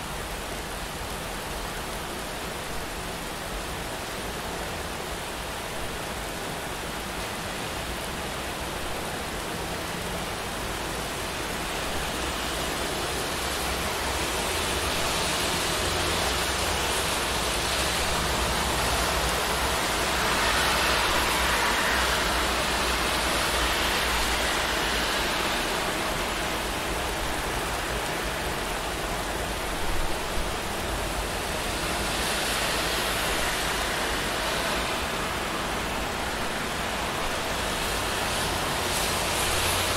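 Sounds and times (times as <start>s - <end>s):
steady rain: 0.0s - 39.9s
vehicles hissing past on wet road: 3.8s - 39.9s.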